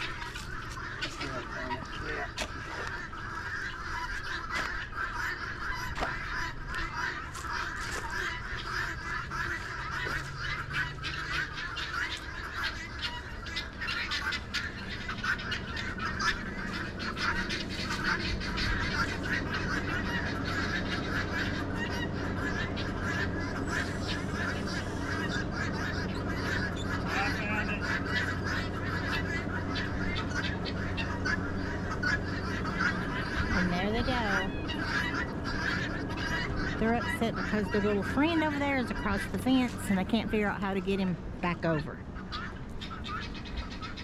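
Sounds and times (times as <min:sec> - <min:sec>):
fowl calling harshly: 0:00.0 - 0:44.0.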